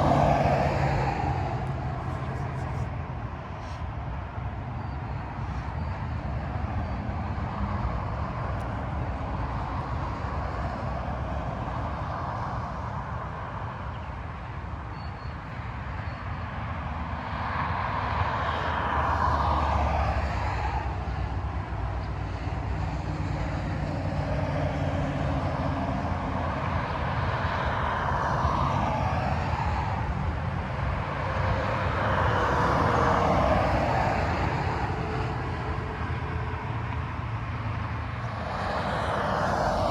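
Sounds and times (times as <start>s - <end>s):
freeway traffic passing: 0.0s - 39.9s.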